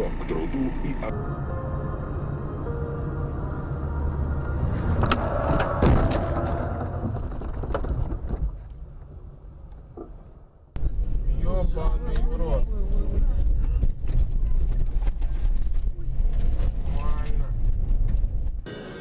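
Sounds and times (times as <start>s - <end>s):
vehicle engine rumble: 0.0s - 18.8s.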